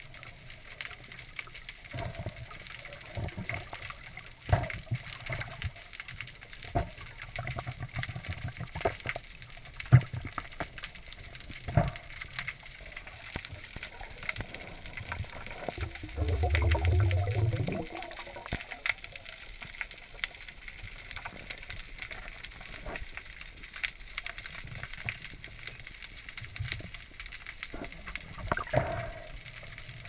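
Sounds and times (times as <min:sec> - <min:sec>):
underwater bubbling and gurgling: 0:00.0 - 0:30.0.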